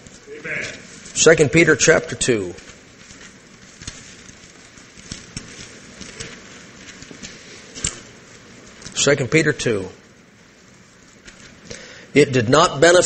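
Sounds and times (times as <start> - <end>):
paper pages rustling: 0.0 - 9.2, 10.4 - 11.7.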